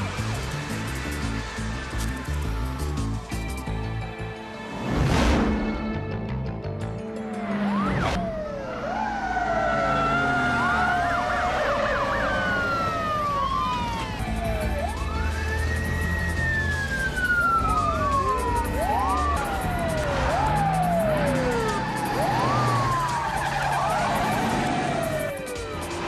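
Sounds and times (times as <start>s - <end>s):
police sirens wailing: 0.0s - 4.7s, 7.0s - 26.0s
car engines: 0.0s - 26.0s.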